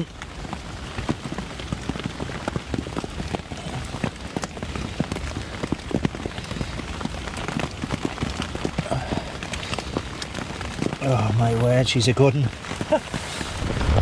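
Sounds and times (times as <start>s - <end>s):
rain on a tent: 0.0s - 14.0s.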